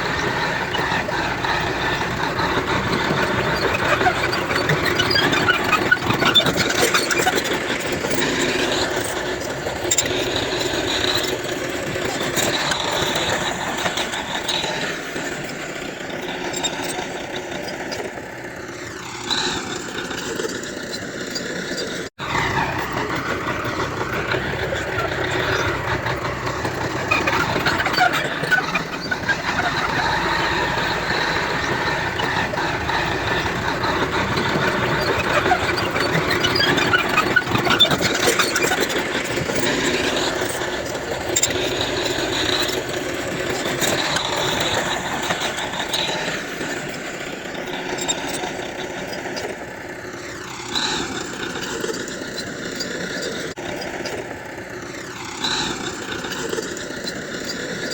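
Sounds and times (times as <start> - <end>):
high-pitched squealing: 0.0 - 49.6
heavy diesel machinery running: 0.0 - 57.9.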